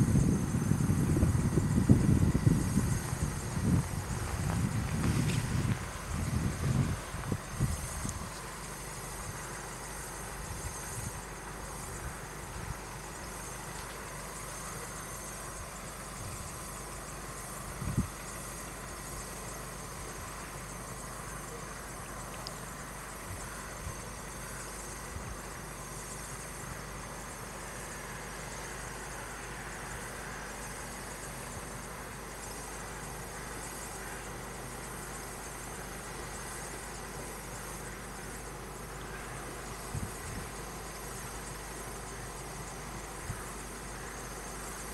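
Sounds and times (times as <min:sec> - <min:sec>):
faint constant tones: 0:00.0 - 0:44.9
steady hiss: 0:00.0 - 0:44.9.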